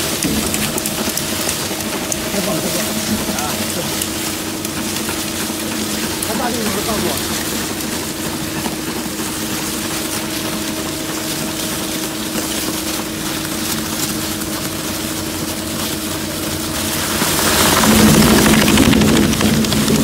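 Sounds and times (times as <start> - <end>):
shredder humming: 0.0 - 20.0.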